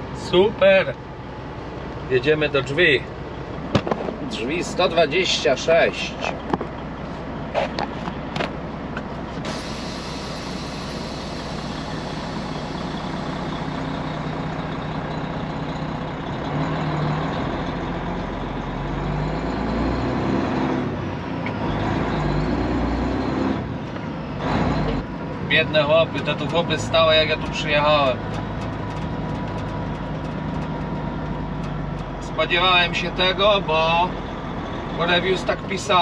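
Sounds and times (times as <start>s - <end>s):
diesel truck engine: 0.0s - 36.0s.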